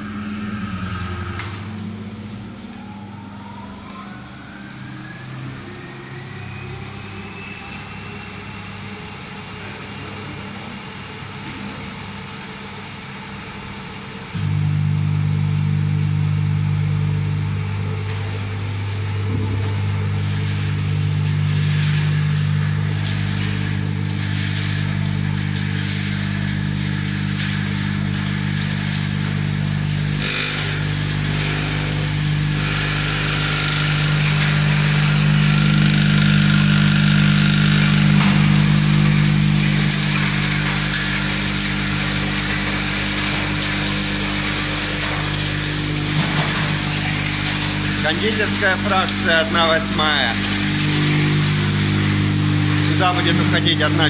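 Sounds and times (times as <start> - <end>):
high-pitched whine: 0.0 - 10.3, 14.4 - 54.0
machinery humming: 0.0 - 54.0.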